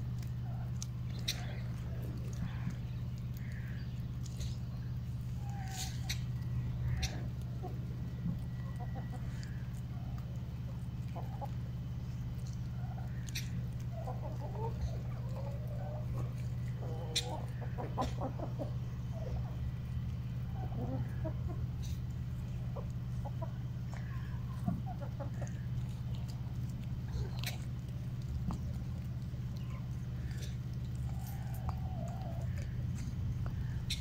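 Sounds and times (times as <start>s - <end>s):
hens clucking softly: 0.0s - 34.0s
steady low hum: 0.0s - 34.0s.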